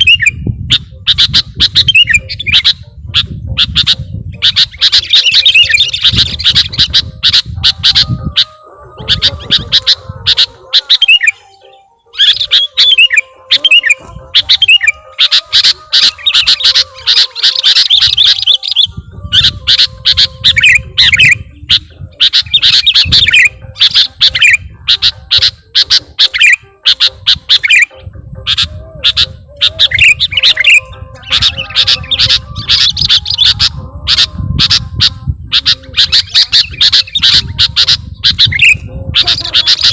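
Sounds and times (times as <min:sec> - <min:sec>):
bird singing chattering trills: 0:00.0 - 0:39.9.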